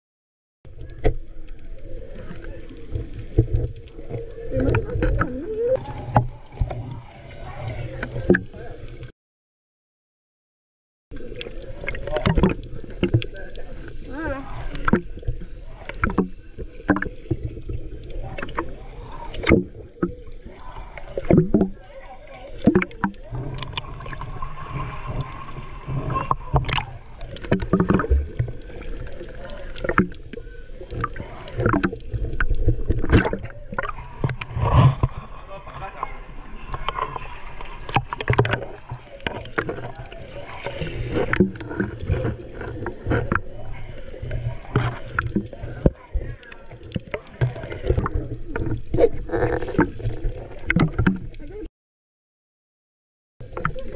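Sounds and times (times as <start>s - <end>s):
water sloshing underwater: 0.6s - 9.1s, 11.1s - 51.7s, 53.4s - 53.9s.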